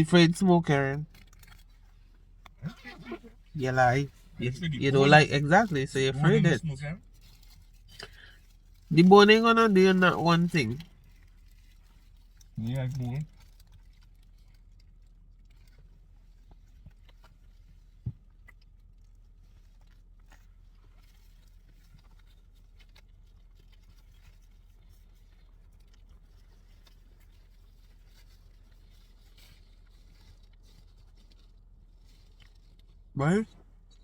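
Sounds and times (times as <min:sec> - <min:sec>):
faint clicks and rustles: 0:00.0 - 0:34.0
low steady hum: 0:00.0 - 0:34.0.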